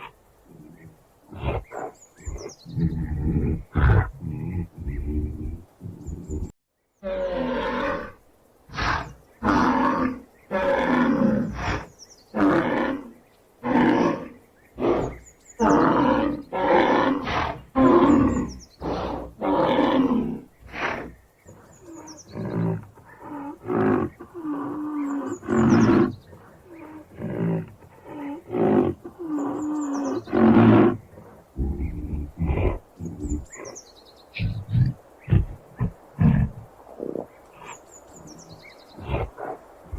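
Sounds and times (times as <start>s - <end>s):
rhinoceros roaring calls: 0.0s - 33.8s.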